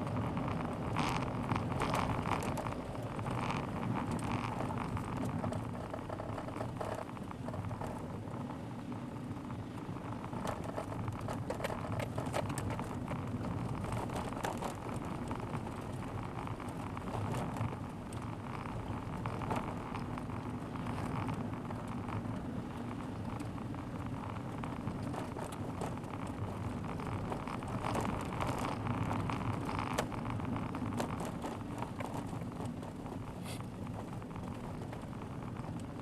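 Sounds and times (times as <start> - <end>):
car engine and tyre noise: 0.0 - 36.0
small ticks and rattles: 0.0 - 36.0.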